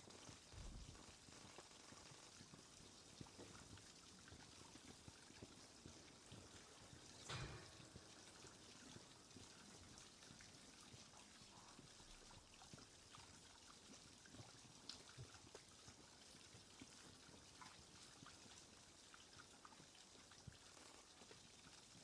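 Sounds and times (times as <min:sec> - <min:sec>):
faint steady hiss: 0:00.0 - 0:22.0
faint ticks and soft knocks: 0:00.1 - 0:22.0.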